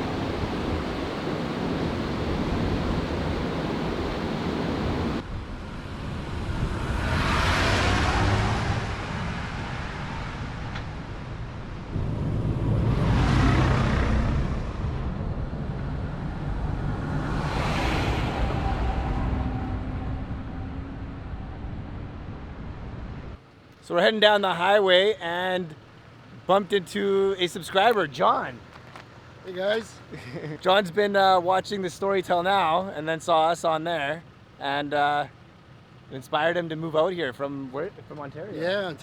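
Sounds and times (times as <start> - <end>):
vehicles driving past: 0.0 - 39.0
wind and road rumble: 0.0 - 39.0.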